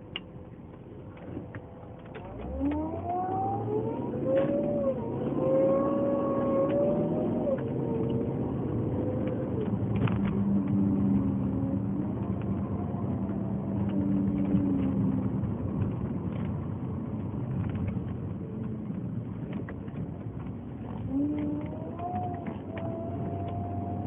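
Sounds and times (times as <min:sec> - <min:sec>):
car engine low hum: 0:00.0 - 0:24.0
whirring whine: 0:00.0 - 0:24.0.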